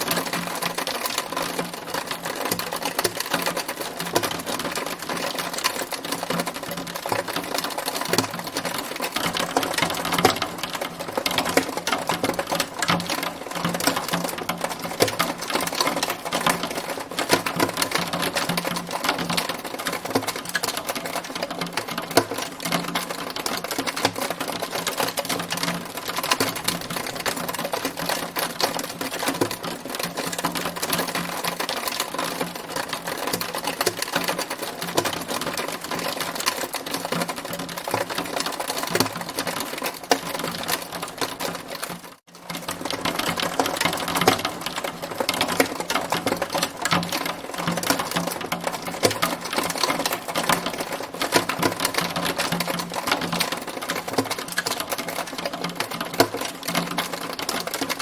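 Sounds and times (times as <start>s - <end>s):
hailstones clattering: 0.0s - 58.0s.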